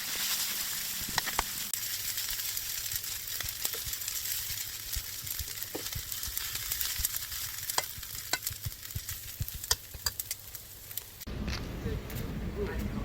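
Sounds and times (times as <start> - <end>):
food sizzling in a pan: 0.0 - 11.3.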